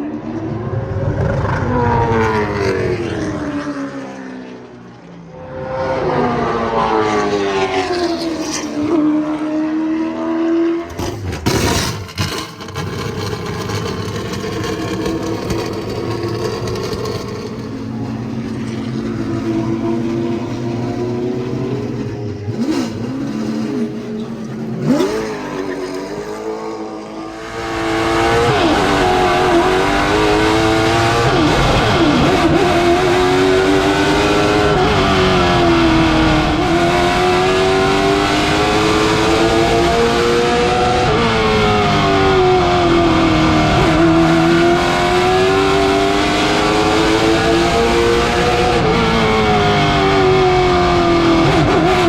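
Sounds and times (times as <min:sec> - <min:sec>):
race car engine revving: 0:05.3 - 0:52.0.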